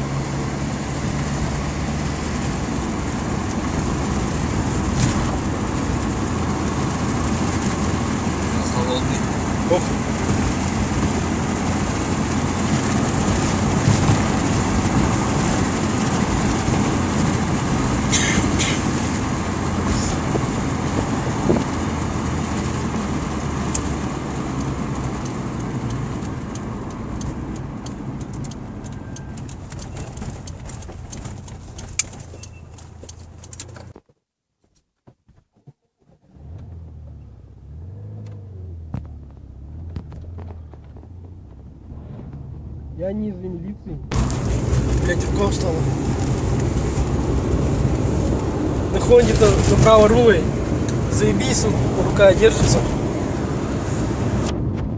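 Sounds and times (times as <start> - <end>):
car road and engine noise: 0.0 - 34.1, 35.6 - 54.9.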